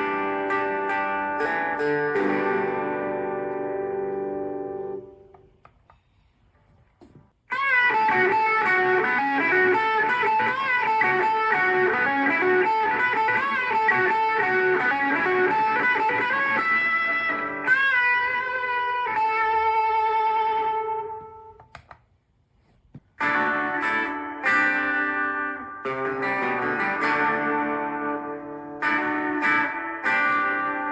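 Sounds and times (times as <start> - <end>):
electric guitar lead: 0.0 - 5.4, 7.5 - 21.7, 23.2 - 30.9.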